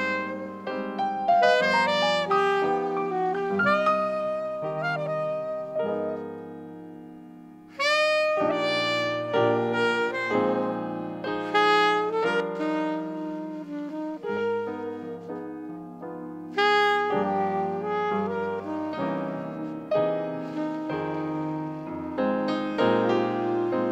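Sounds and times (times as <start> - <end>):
alto saxophone melody: 0.0 - 6.9, 7.6 - 23.9
piano chords: 0.0 - 23.9.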